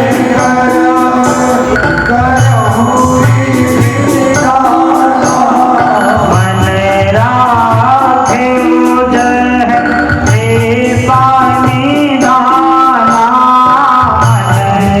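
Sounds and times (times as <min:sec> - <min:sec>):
hand drum beating: 0:00.0 - 0:15.0
person singing devotional song: 0:00.0 - 0:15.0
sustained instrumental accompaniment: 0:00.0 - 0:15.0.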